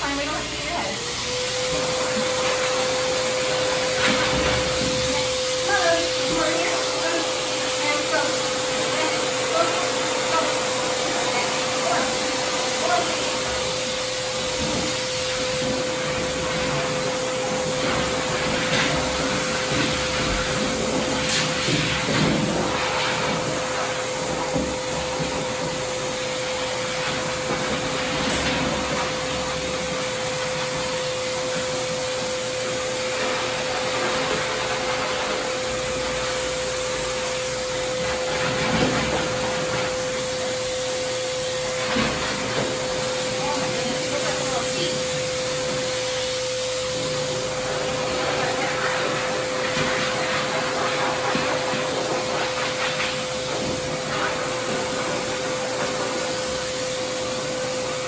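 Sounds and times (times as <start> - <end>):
pet dryer blowing air: 0.0 - 58.0.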